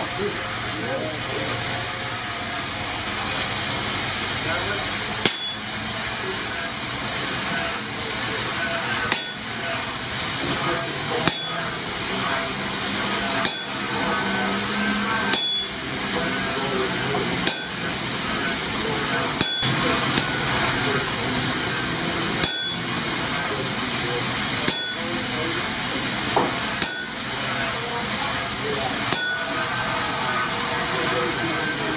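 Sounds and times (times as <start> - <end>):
hammer striking hot steel on anvil: 4.8 - 31.9.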